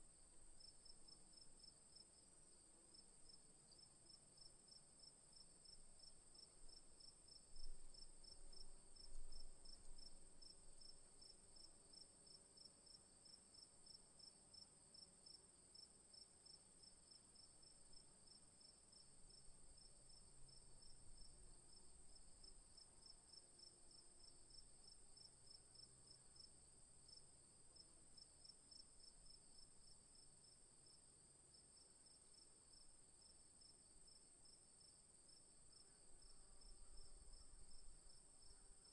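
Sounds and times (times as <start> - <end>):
cricket chirping: 0.2 - 38.9.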